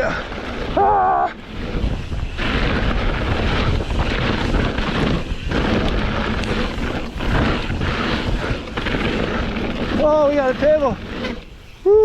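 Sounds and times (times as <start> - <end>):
tyres rumbling on rough dirt: 0.0 - 12.0
wind rushing over microphone: 0.0 - 12.0.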